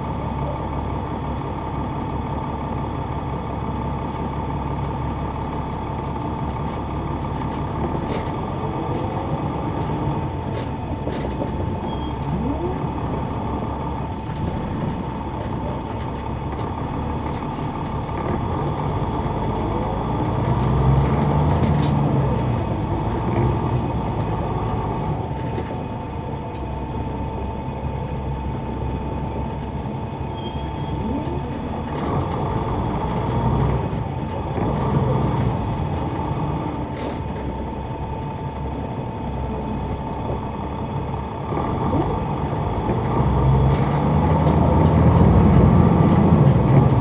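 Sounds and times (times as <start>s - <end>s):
bus diesel engine hum: 0.0s - 47.0s.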